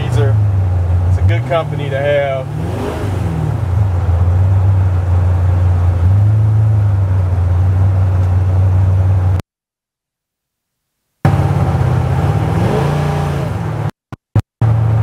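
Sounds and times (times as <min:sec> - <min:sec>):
deep engine exhaust drone: 0:00.0 - 0:09.4, 0:11.2 - 0:13.9, 0:14.6 - 0:15.0.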